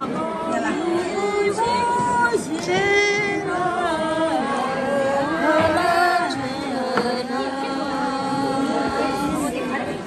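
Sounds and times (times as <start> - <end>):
women singing unaccompanied: 0.0 - 10.0.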